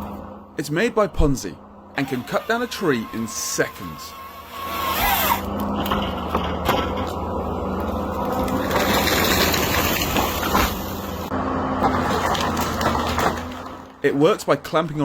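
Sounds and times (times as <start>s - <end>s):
forestry harvester diesel engine: 0.0s - 15.0s.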